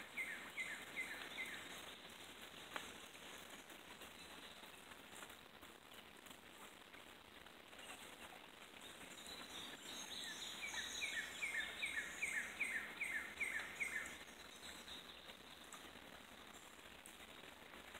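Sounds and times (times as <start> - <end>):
faint steady hiss: 0.0 - 17.9.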